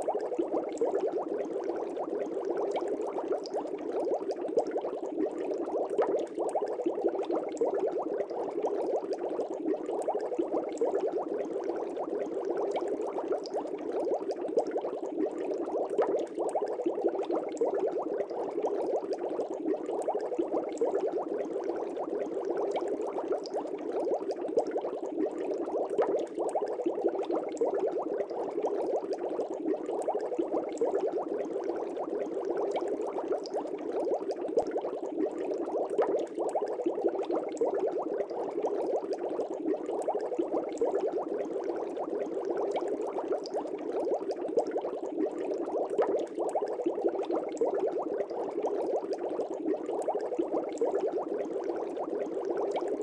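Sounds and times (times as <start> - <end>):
air bubbles in fish tank: 0.0 - 53.0.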